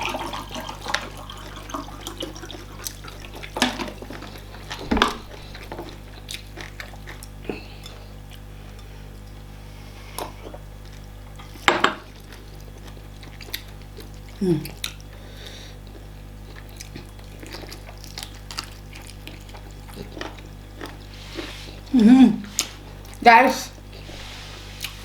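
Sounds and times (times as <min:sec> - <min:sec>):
wet eating sounds: 0:00.0 - 0:25.0.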